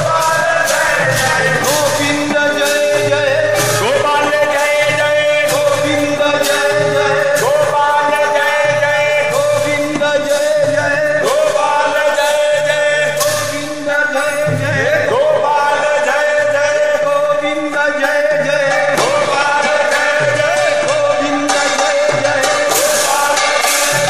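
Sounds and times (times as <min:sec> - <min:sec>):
struck percussion ringing: 0:00.0 - 0:15.6, 0:18.0 - 0:24.0
man singing a chant: 0:00.0 - 0:24.0.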